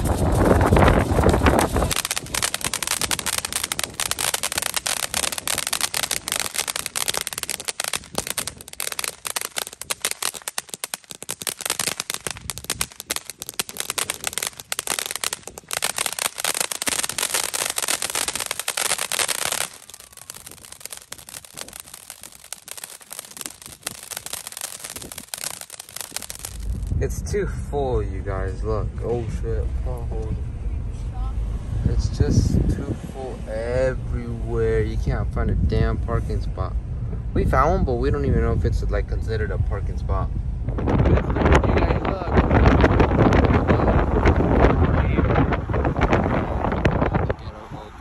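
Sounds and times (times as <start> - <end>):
firework crackling and hissing: 0.0 - 30.3, 37.8 - 48.0.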